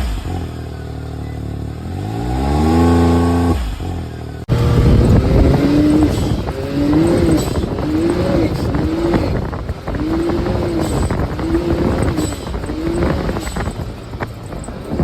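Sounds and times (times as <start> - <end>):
turbocharged engine running: 0.0 - 15.0.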